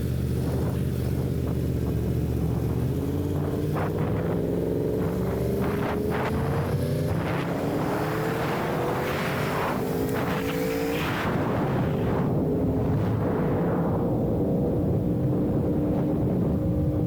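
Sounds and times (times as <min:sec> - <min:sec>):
motorcycle engine accelerating: 0:00.0 - 0:17.0
wind noise: 0:00.0 - 0:17.0.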